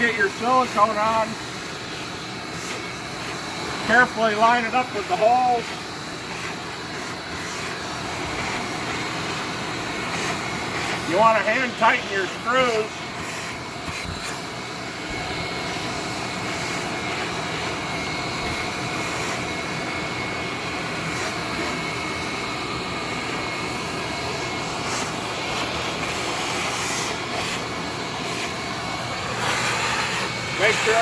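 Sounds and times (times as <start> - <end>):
electric blower motor running: 0.0 - 31.0.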